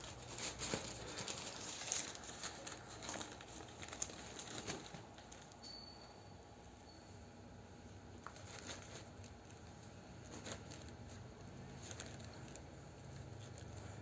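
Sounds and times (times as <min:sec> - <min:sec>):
faint rustling: 0:00.0 - 0:05.6, 0:08.2 - 0:14.0.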